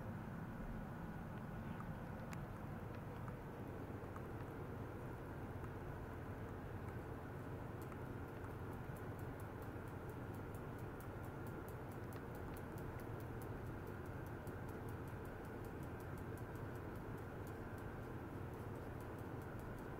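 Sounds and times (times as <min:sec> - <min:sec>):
low electrical hum: 0:00.0 - 0:19.9
fast light ticking: 0:02.2 - 0:19.9.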